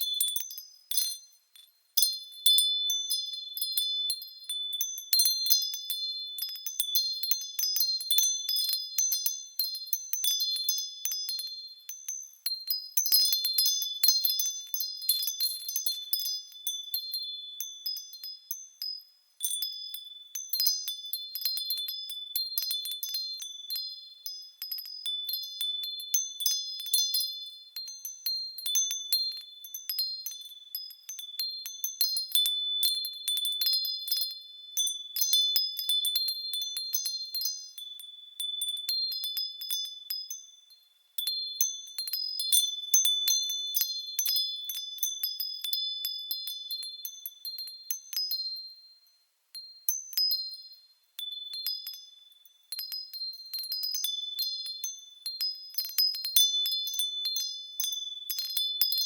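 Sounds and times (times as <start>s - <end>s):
wind chimes tinkling: 0.0s - 59.0s.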